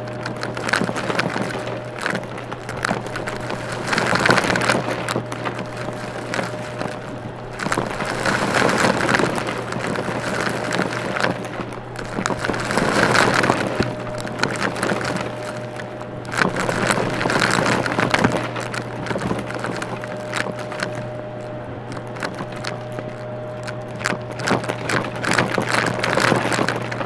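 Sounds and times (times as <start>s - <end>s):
debris crackling into vacuum: 0.0s - 27.0s
vacuum cleaner motor hum: 0.0s - 27.0s.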